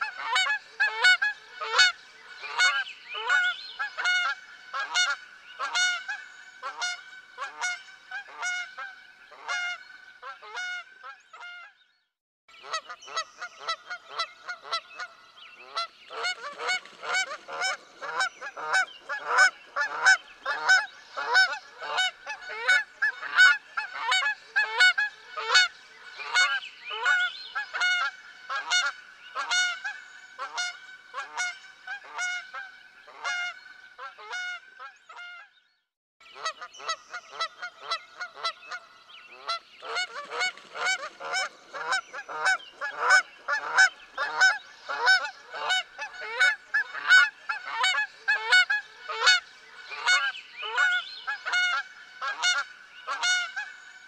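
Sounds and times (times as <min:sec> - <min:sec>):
flock of geese honking: 0:00.0 - 0:11.8, 0:12.6 - 0:35.5, 0:36.4 - 0:54.0.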